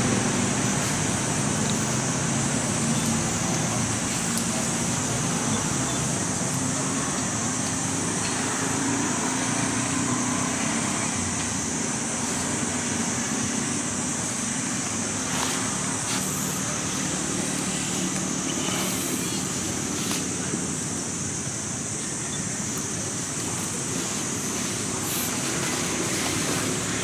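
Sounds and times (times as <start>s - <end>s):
continuous high-pitched buzz: 0.0s - 27.0s
low rumble of road traffic: 0.0s - 27.0s.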